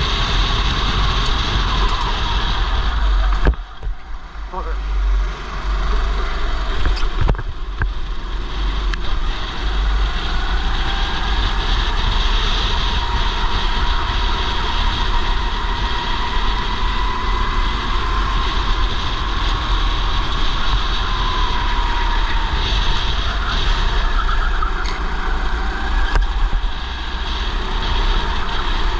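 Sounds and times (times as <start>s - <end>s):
kart engine at full throttle: 0.0s - 28.9s
wind noise: 0.0s - 28.9s.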